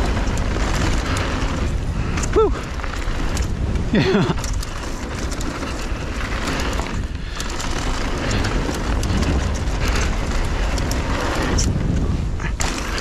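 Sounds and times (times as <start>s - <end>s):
bike clicks and rattles: 0.0s - 13.0s
tyres rolling over dirt and gravel: 0.0s - 13.0s
wind rushing over microphone: 0.0s - 13.0s.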